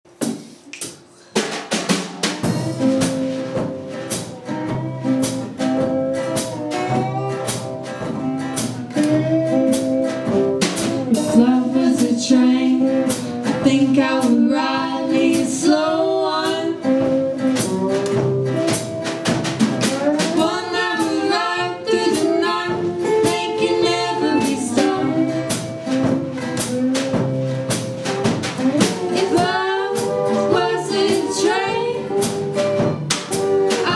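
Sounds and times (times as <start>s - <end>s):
drum kit beat: 0.1s - 33.9s
live band playing: 0.2s - 33.9s
acoustic guitars: 1.9s - 33.9s
acoustic bass guitar: 2.2s - 33.9s
person singing: 2.4s - 19.2s, 19.8s - 27.4s, 28.6s - 33.9s.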